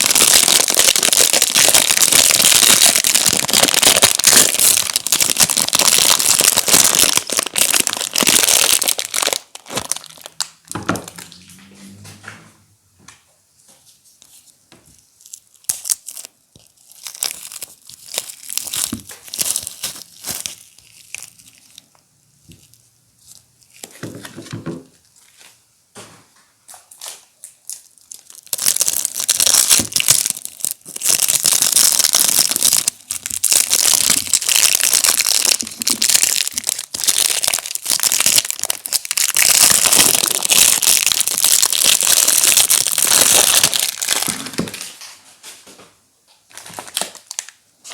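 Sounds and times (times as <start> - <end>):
wrapper crinkling and tearing: 0.0 - 11.5, 15.2 - 24.3, 26.9 - 45.1, 46.5 - 47.9.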